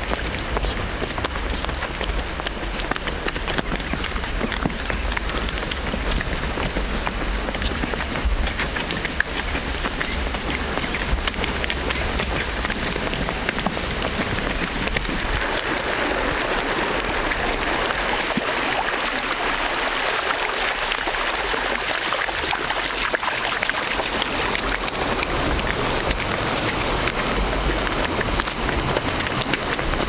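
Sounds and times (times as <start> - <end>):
hooves splashing on stones: 0.0 - 30.0
shallow water rushing: 0.0 - 30.0.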